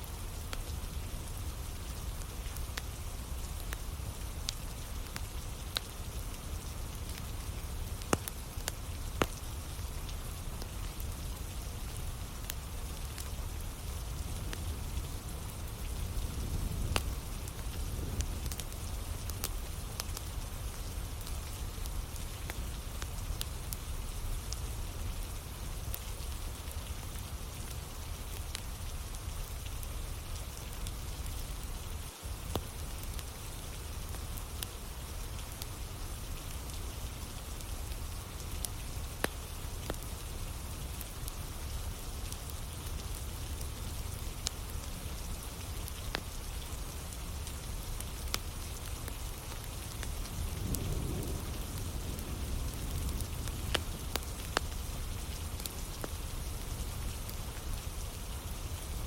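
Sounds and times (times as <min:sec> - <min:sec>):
campfire crackling: 0:00.0 - 0:59.0
rain hissing: 0:00.0 - 0:59.0.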